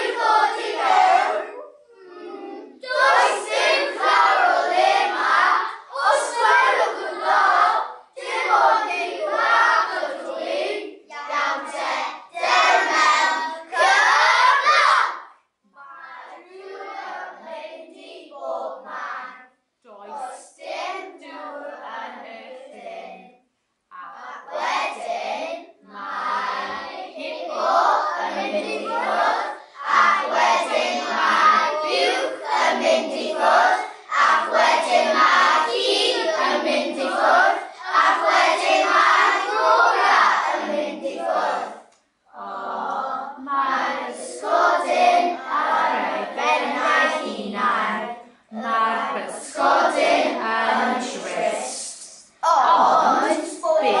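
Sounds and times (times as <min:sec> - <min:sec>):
children speaking in unison: 0:00.0 - 0:23.3, 0:23.9 - 0:54.0.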